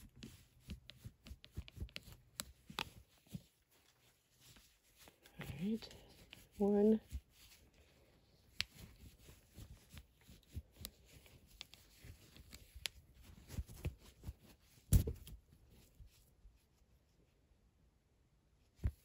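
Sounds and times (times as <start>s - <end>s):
wipe rustling on sunglasses: 0.0s - 16.9s.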